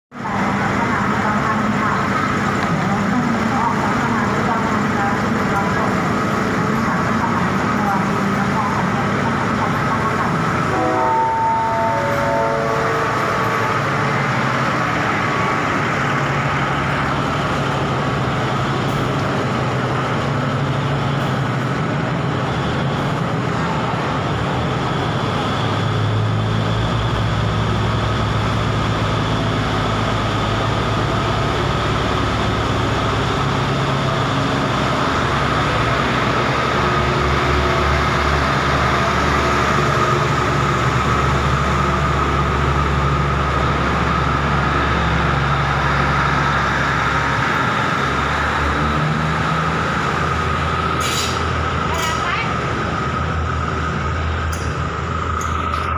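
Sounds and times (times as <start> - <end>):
deep engine rumble: 0.1 - 55.9
train engine noise: 0.1 - 55.9
train wheel noise: 0.2 - 55.9.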